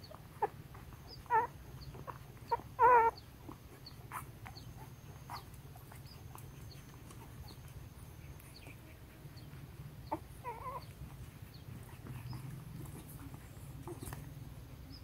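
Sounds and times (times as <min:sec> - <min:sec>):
puppy whimper: 0:00.0 - 0:14.4
low steady hum: 0:00.0 - 0:15.0
puppies squeaking: 0:00.0 - 0:15.0.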